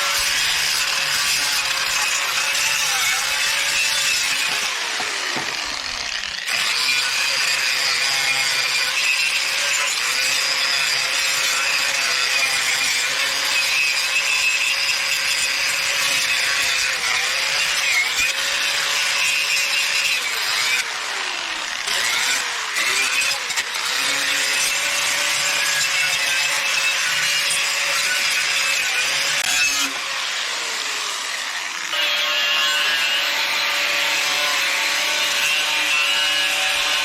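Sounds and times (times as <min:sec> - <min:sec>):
power tool whining: 0:00.0 - 0:37.0.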